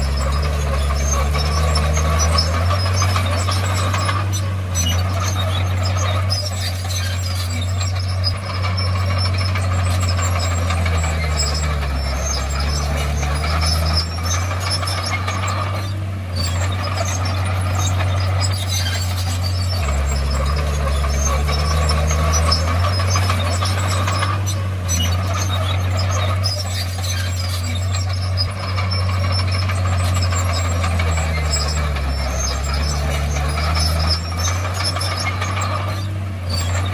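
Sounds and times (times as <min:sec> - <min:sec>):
bulldozer diesel engine running: 0:00.0 - 0:36.9
high clatter and squeaking: 0:00.0 - 0:36.9.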